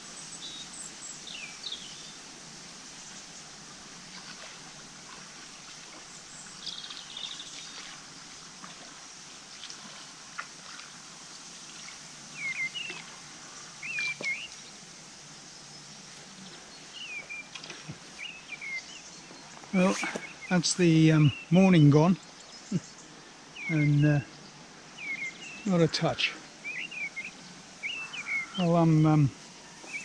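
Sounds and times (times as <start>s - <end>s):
birds calling: 0.0s - 30.0s
outdoor background hiss: 0.0s - 30.0s.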